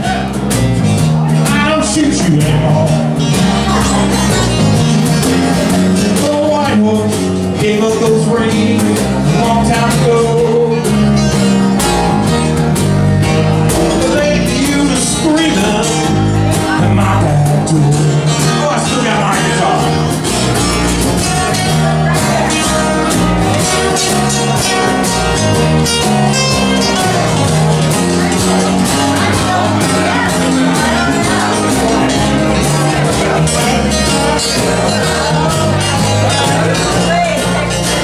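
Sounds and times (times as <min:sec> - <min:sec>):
box drum beat: 0:00.0 - 0:38.0
electric bass: 0:00.0 - 0:38.0
strummed acoustic guitars: 0:00.0 - 0:38.0.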